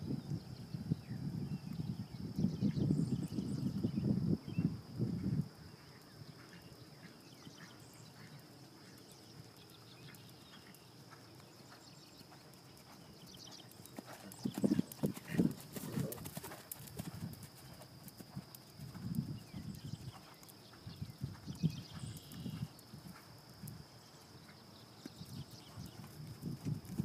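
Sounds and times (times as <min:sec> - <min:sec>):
horse hooves trotting on sand: 0:05.0 - 0:27.0.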